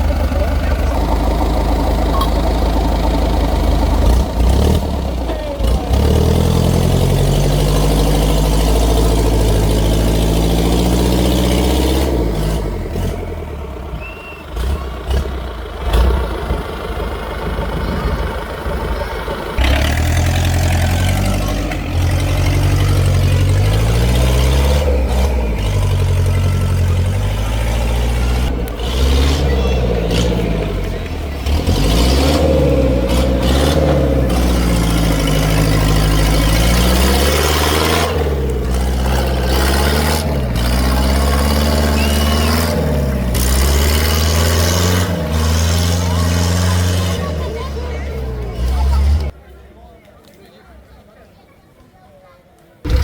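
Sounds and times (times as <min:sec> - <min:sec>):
tractor engines revving: 0:00.0 - 0:49.5.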